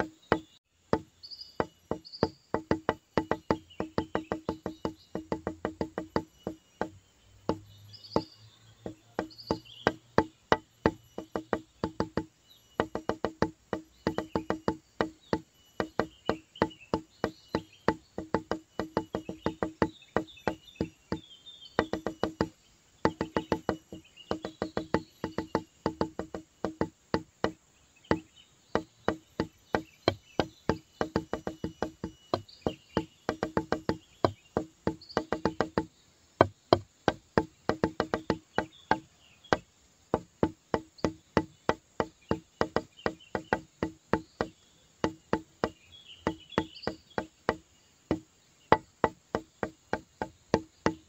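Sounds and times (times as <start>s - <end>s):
music with clicking percussive beat: 0.0s - 51.0s.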